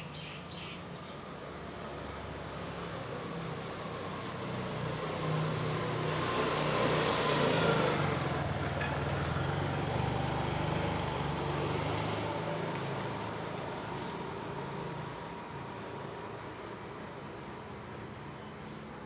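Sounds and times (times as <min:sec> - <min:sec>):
vehicle driving past: 0:01.6 - 0:16.9.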